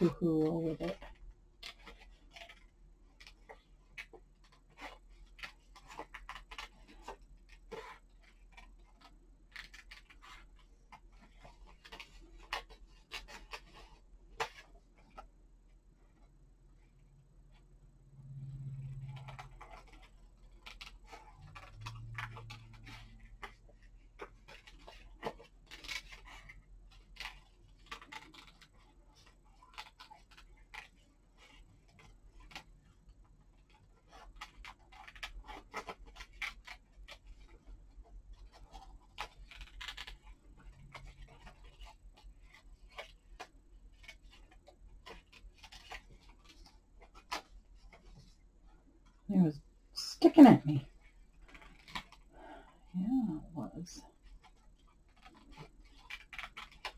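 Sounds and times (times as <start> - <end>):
scissors snipping paper: 0.0 - 15.3, 18.8 - 48.3, 53.0 - 56.9.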